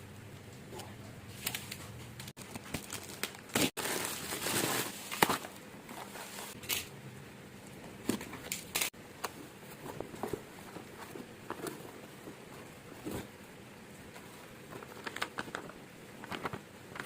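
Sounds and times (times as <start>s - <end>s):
crinkling rustle: 1.3s - 6.7s, 8.2s - 17.0s.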